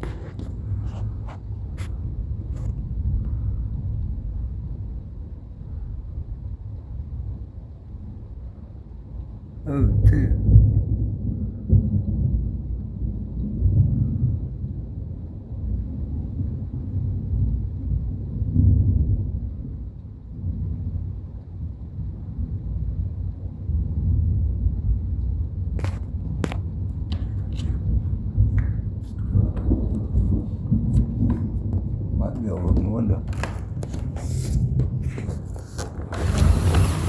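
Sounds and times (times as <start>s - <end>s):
thunder rumbling: 0.0s - 37.0s.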